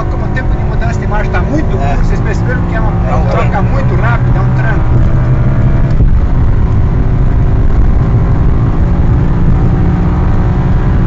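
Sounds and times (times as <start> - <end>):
car engine running loudly: 0.0 - 11.0
tyre and road noise: 0.0 - 11.0.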